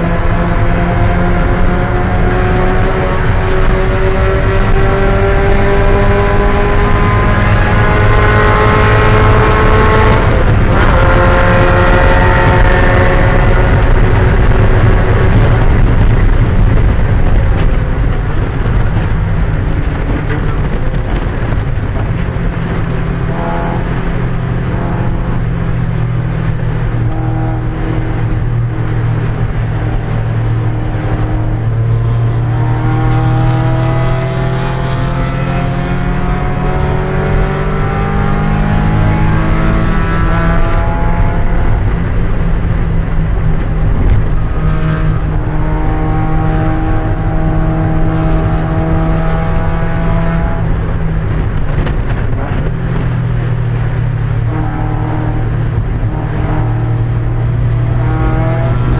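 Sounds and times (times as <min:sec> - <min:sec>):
car engine revving: 0:00.0 - 0:58.9
road and wind noise: 0:00.0 - 0:58.9.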